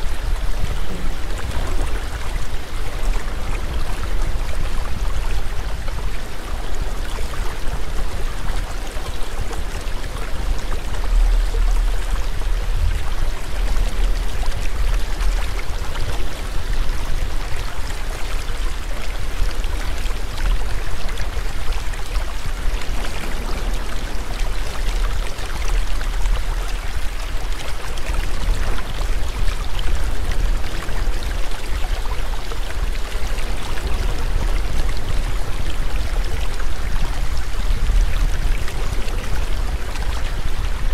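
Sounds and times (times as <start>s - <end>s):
rushing flowing water: 0.0s - 40.9s.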